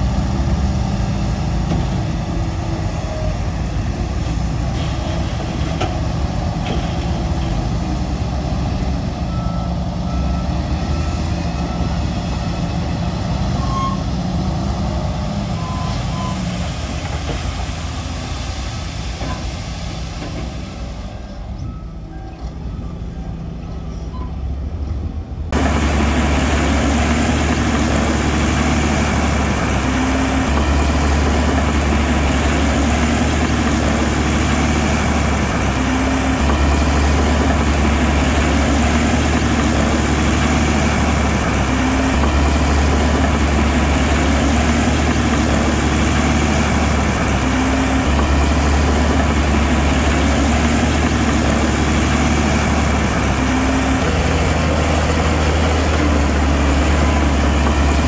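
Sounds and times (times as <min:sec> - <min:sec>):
diesel engine humming: 0:00.0 - 0:58.0.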